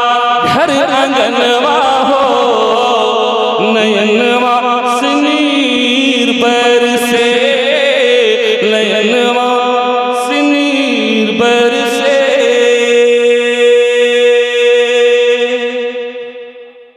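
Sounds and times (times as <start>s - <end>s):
man singing into microphone: 0.0s - 16.7s.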